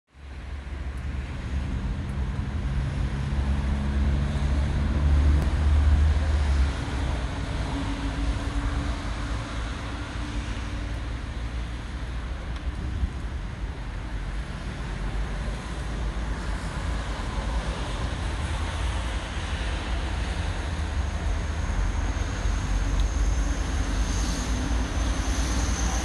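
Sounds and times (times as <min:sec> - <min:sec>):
road noise: 0:00.1 - 0:26.0.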